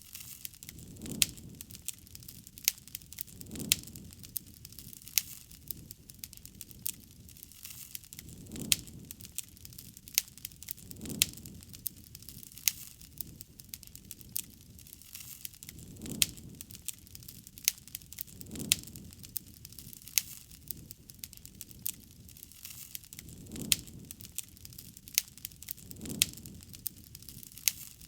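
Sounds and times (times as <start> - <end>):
campfire crackling and popping: 0.0 - 28.0
low rush of flame: 0.0 - 28.0.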